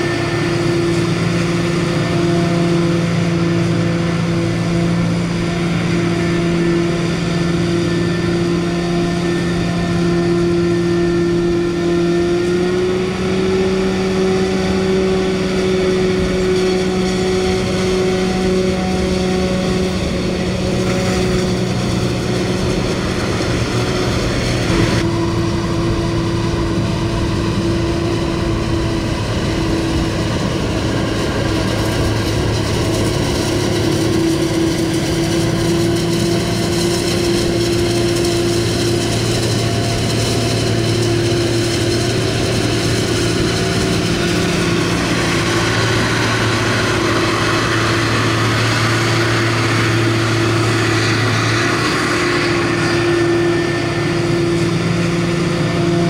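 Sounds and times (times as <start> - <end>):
heavy farm machinery engine drone: 0.0 - 56.0.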